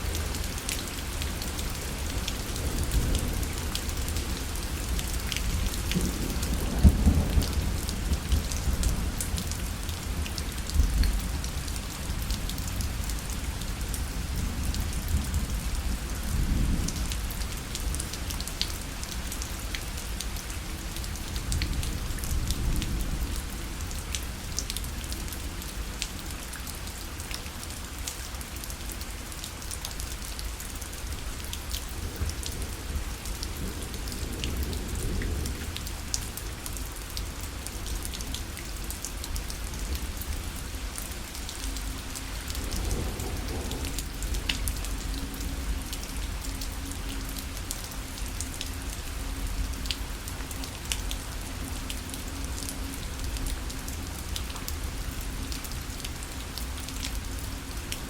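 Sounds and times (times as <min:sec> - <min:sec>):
rain on fabric parasol: 0:00.0 - 0:58.0.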